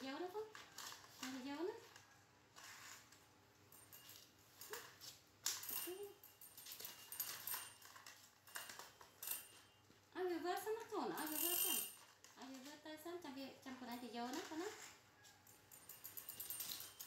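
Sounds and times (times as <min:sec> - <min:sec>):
toy car rattling on mat: 0:00.4 - 0:09.8, 0:10.6 - 0:12.8, 0:13.9 - 0:17.0.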